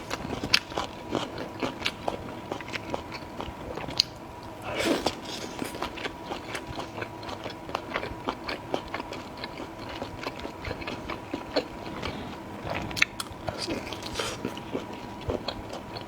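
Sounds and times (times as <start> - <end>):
close chewing with wet clicks: 0.0 - 16.0.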